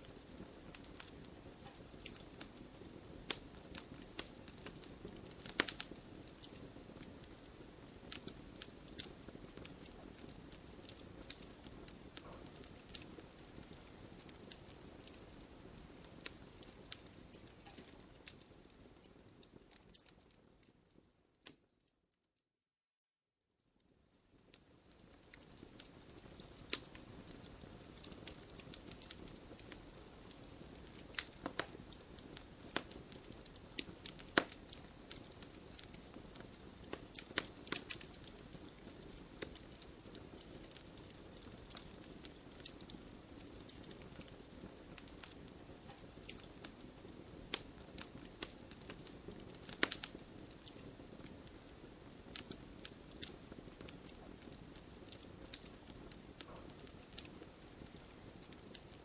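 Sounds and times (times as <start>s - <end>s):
fire crackling and popping: 0.0s - 21.8s, 23.8s - 59.0s.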